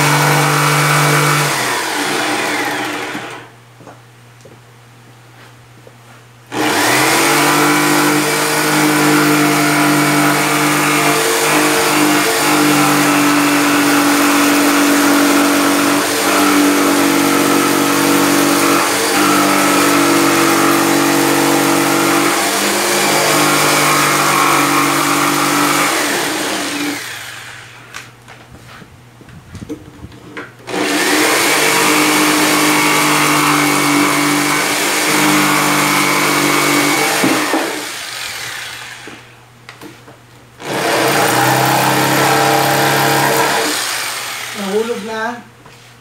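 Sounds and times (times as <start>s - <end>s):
jigsaw cutting wood: 0.0s - 3.5s, 6.5s - 27.8s, 30.6s - 39.4s, 40.6s - 45.4s.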